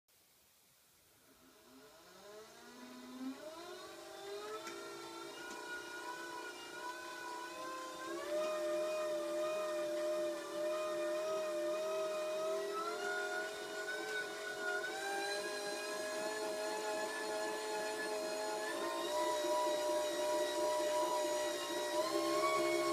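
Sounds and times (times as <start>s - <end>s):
generator whining: 1.6s - 22.9s.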